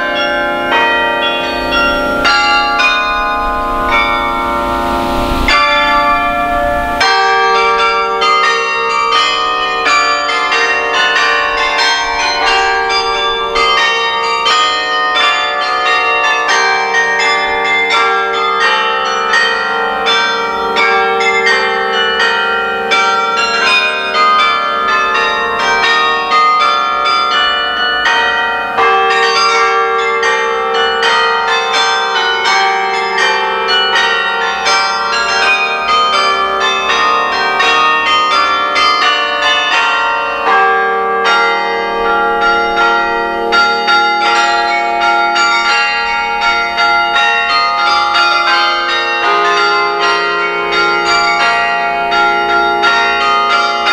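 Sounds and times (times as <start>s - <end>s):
carillon bells playing a melody: 0.0s - 53.9s
held lower bells: 0.0s - 53.9s.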